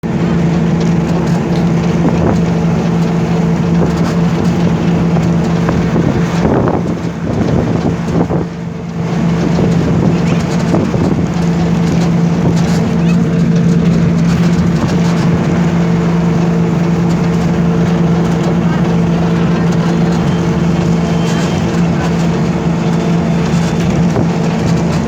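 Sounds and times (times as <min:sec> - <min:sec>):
motor droning: 0:00.0 - 0:25.0
wind rushing over microphone: 0:00.0 - 0:25.0.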